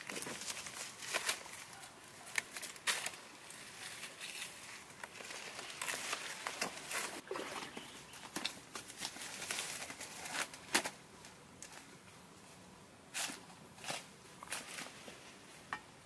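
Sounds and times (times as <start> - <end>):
bamboo basket rustling: 0.0 - 15.8.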